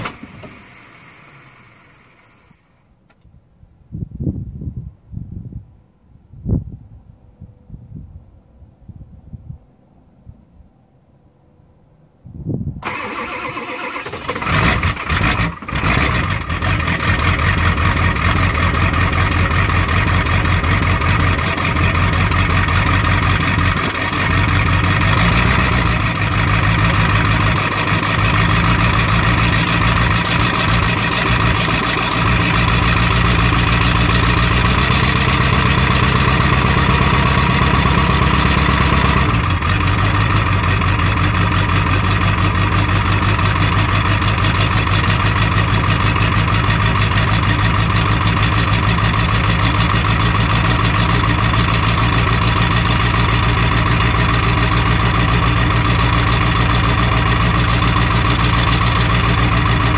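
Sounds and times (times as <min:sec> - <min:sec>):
diesel engine starting and idling: 0:00.0 - 0:03.0, 0:12.8 - 0:59.9.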